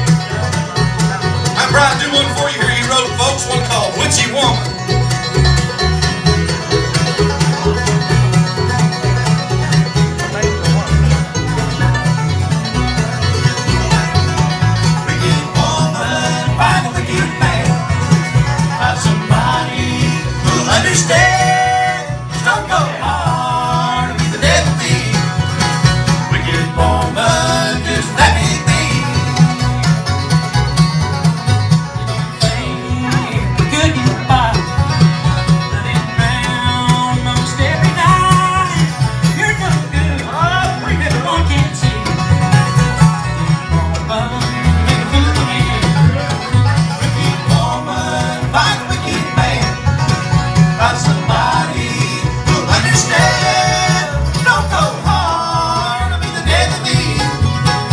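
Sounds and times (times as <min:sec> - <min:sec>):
bluegrass band playing: 0:00.0 - 0:57.9.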